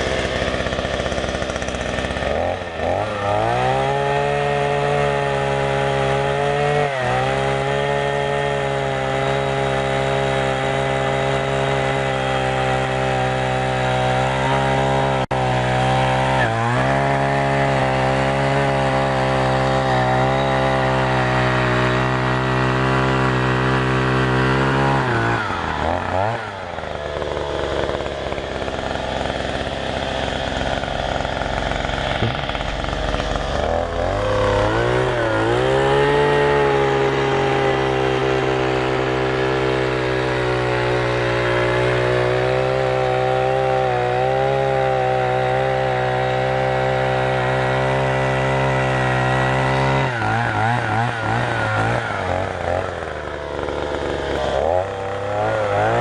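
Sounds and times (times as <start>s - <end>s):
two-stroke auger engine revving: 0.0s - 56.0s.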